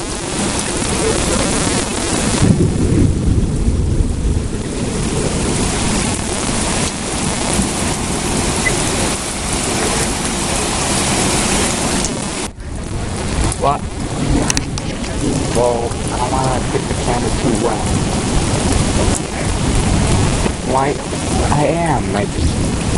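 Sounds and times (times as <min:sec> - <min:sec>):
heavy rain pouring: 0:00.0 - 0:22.9
low thunder rumble: 0:00.0 - 0:22.9.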